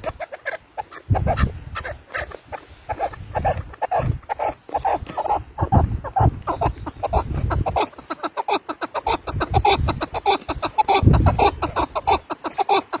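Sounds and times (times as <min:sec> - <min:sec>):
partridge calling: 0:00.0 - 0:13.0.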